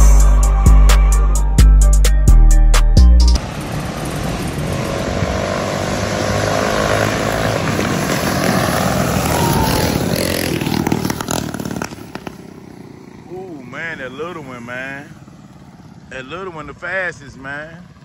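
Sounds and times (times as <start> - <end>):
small engine running: 3.4 - 18.0.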